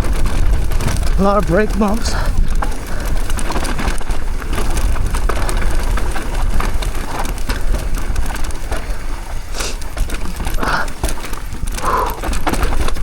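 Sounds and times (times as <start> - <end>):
bike rattling and clicking: 0.0 - 13.0
bike tyres crunching on dirt: 0.0 - 13.0
low wind rumble: 0.0 - 13.0.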